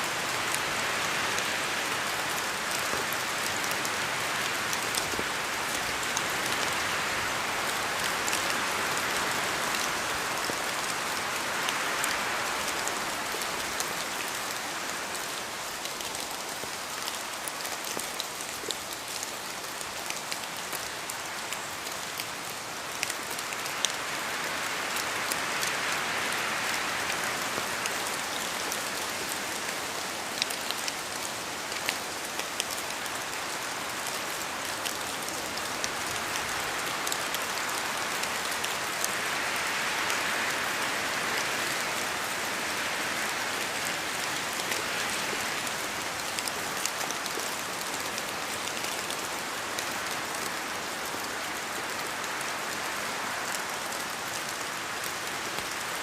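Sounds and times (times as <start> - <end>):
rain drops pattering on leaves: 0.0 - 56.0
wind in trees: 0.0 - 56.0.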